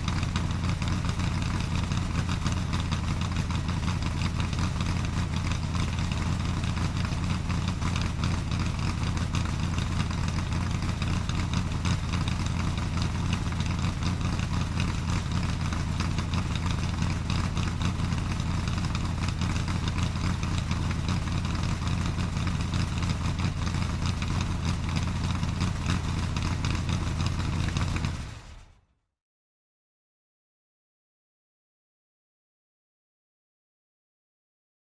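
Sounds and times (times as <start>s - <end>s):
vehicle engine idling: 0.0s - 28.8s.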